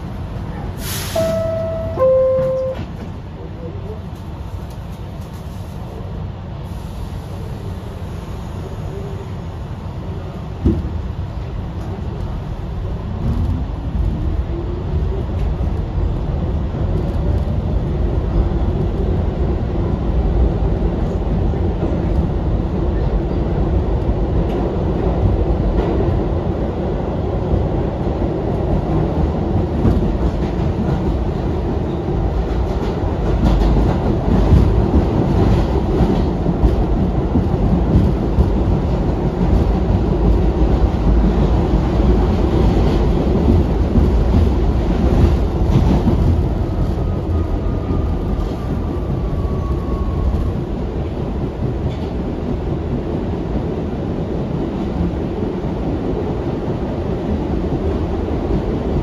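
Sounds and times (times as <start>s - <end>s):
subway train whine: 0.0s - 59.0s
wheels rumbling on rail: 0.0s - 59.0s.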